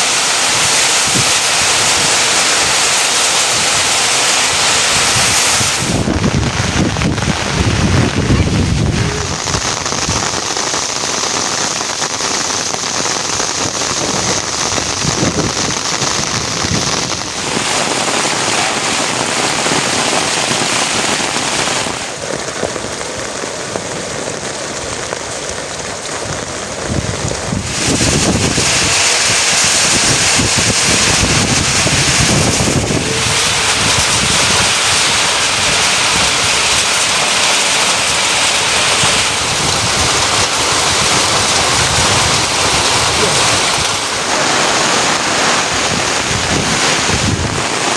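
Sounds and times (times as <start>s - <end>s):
rain falling: 0.0s - 47.9s
wind rumbling on microphone: 0.0s - 47.9s.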